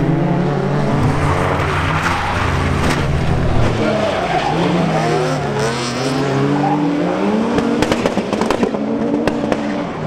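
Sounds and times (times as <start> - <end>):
race car engines revving: 0.0 - 10.0.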